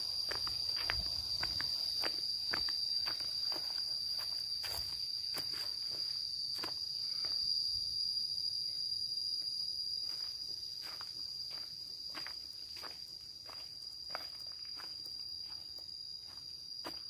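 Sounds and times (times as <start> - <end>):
footsteps on dirt path: 0.0 - 7.5, 10.0 - 17.0
high-pitched insect drone: 0.0 - 17.0.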